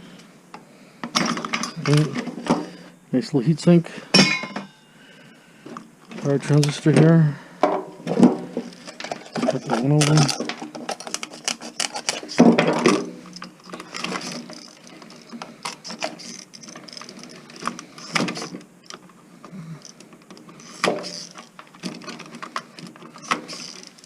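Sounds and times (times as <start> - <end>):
hand tools and metal parts clicking: 1.0 - 2.7, 4.1 - 4.9, 6.1 - 24.0.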